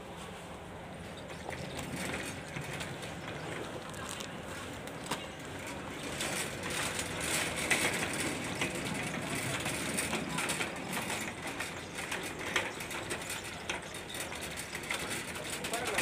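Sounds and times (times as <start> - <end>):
faint unclear voices: 1.3 - 16.0.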